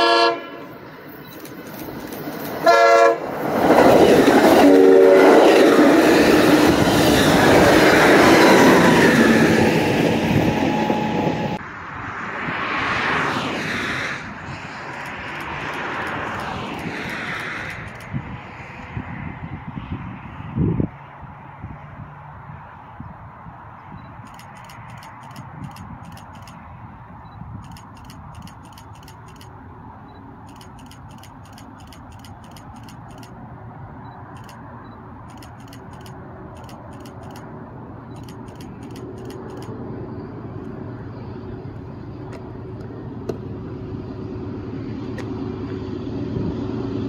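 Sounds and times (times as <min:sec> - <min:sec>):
diesel locomotive rumbling: 0:00.0 - 0:12.5, 0:13.4 - 0:47.0
outdoor background noise: 0:00.0 - 0:47.0.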